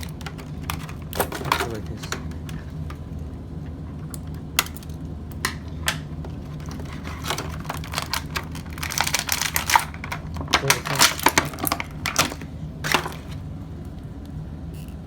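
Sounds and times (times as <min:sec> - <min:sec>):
plastic and cardboard crinkling: 0:00.0 - 0:03.1, 0:03.9 - 0:13.5
steady low hum: 0:00.0 - 0:15.0.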